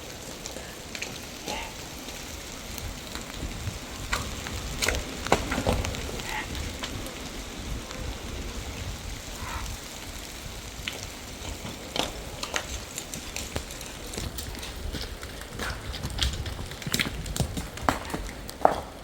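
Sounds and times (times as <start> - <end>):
clicks and crackles: 0.0 - 19.0
wind buffeting microphone: 0.0 - 19.0.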